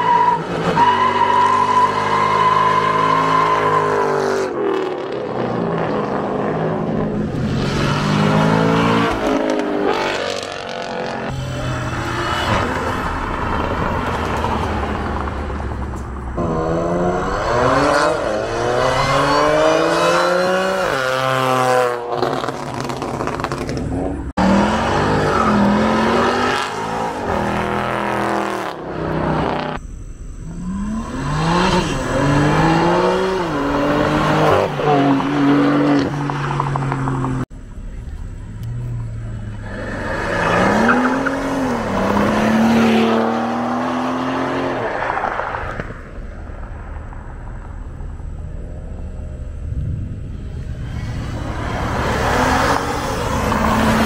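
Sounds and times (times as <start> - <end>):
supercar engines revving: 0.0 - 54.0.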